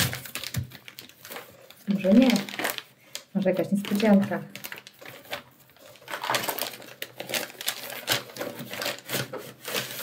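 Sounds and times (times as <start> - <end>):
paper envelope crackling: 0.0 - 10.0.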